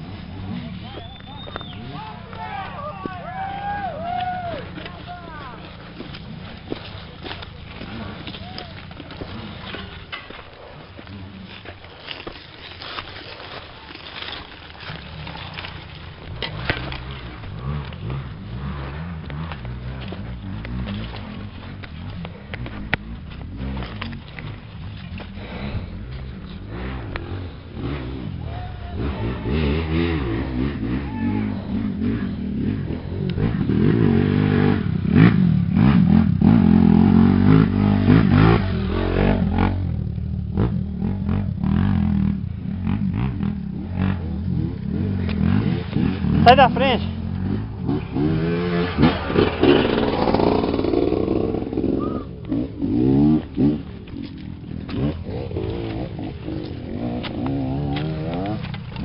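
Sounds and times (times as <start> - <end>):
motorcycle engine revving: 0.0 - 59.0
mountain bike rattling: 0.0 - 59.0.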